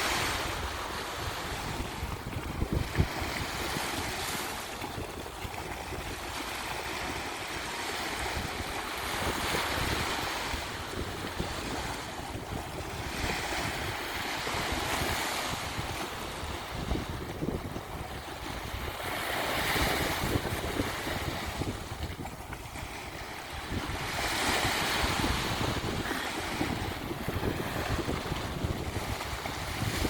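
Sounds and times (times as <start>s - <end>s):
waves washing onto beach: 0.0s - 30.0s.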